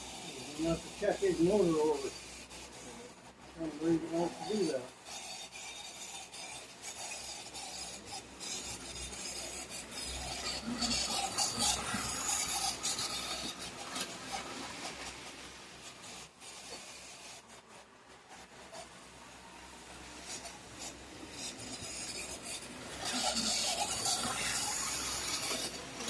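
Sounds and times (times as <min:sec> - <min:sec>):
model train motor whirring: 0:00.0 - 0:26.0.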